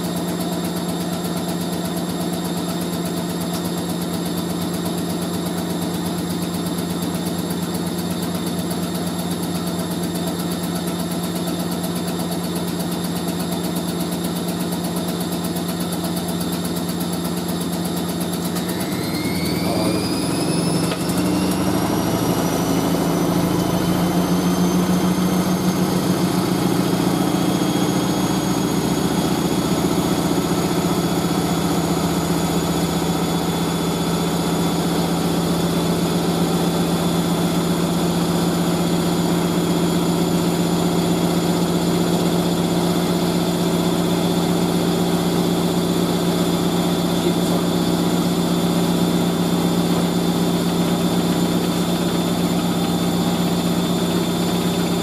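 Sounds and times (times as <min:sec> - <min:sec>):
washing machine drum spinning: 0:00.0 - 0:55.0.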